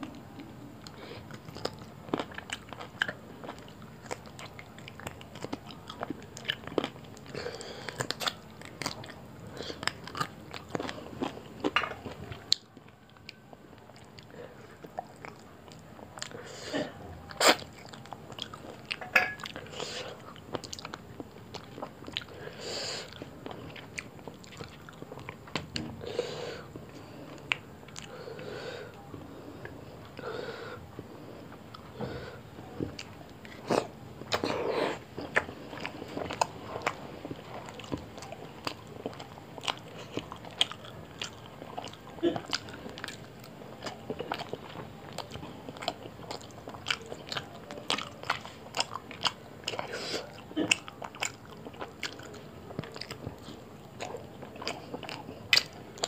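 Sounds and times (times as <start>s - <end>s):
chewing with mouth clicks: 0.0s - 25.9s, 26.6s - 28.2s, 30.9s - 56.0s.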